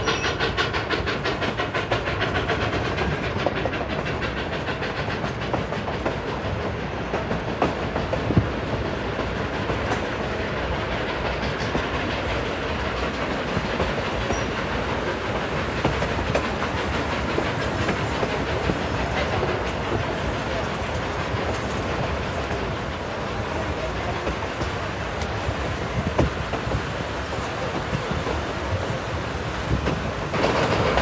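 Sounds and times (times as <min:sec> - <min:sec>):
train cars rumbling: 0:00.0 - 0:31.0
wheels clicking on track: 0:00.0 - 0:31.0.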